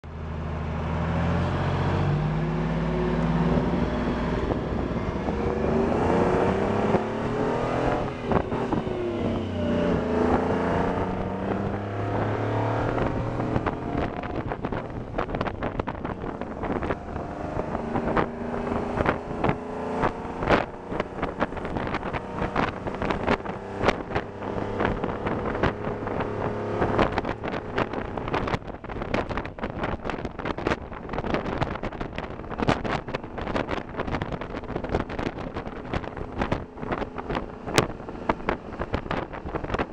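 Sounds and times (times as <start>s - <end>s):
diesel engine revving: 0.1s - 39.9s.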